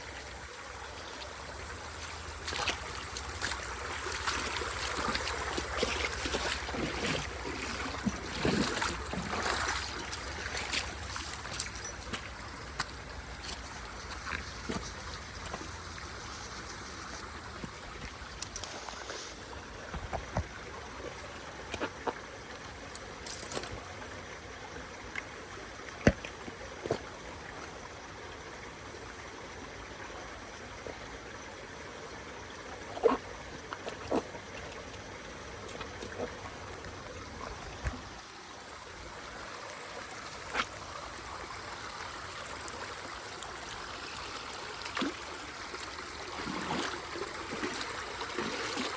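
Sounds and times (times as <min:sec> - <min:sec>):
flowing water rushing: 0:00.0 - 0:48.9.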